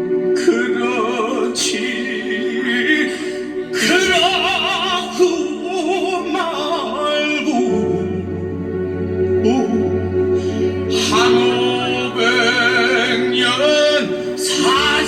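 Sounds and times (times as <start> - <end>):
person singing with vibrato: 0.1 - 8.4, 9.4 - 15.0.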